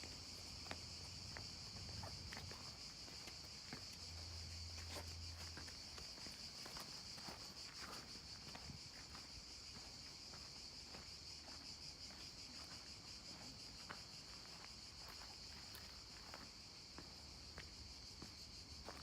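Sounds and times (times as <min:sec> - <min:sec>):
insects chirring: 0:00.0 - 0:19.0
soft footsteps: 0:00.0 - 0:19.0.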